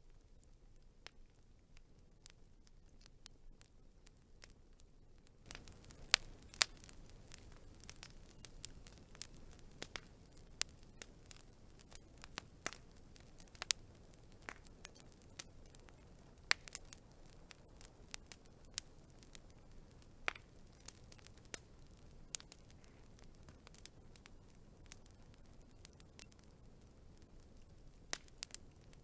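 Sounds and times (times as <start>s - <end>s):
burning wood crackling: 0.0s - 29.0s
faint steady hiss: 0.0s - 29.0s.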